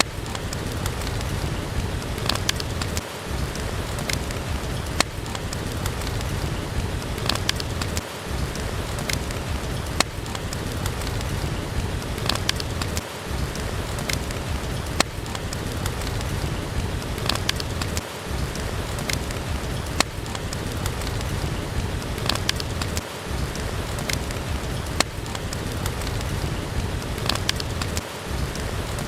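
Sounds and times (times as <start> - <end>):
heavy rain: 0.0 - 29.0
sharp clicks and pops: 0.0 - 29.0.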